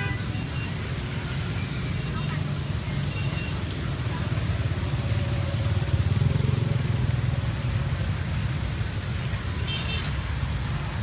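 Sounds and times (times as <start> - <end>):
even hiss: 0.0 - 11.0.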